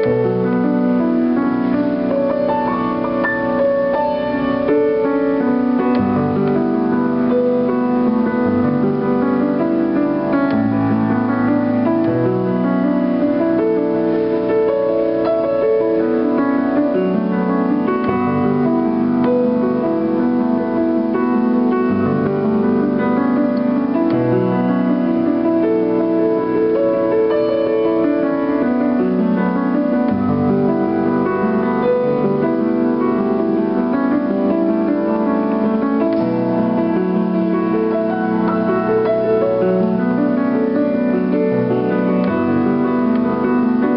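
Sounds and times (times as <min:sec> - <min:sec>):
piano chords: 0:00.0 - 0:43.9.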